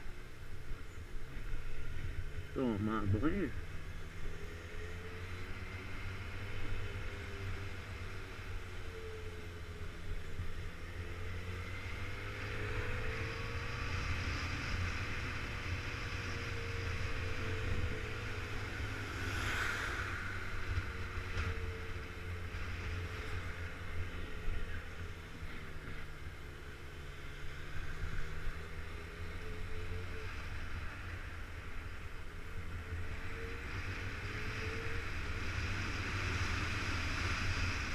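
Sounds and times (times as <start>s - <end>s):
wind and road noise: 0.0s - 37.9s.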